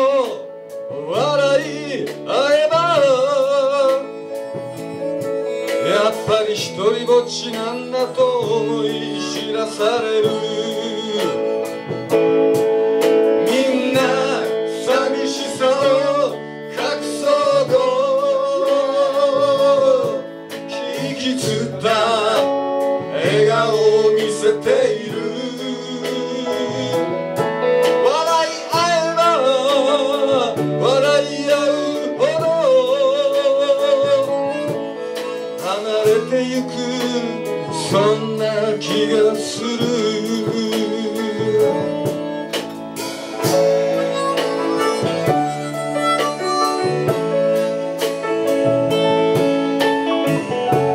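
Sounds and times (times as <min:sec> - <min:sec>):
folk-rock band playing: 0:00.0 - 0:50.9
harmonica wavering notes: 0:00.0 - 0:50.9
man singing: 0:00.0 - 0:50.9.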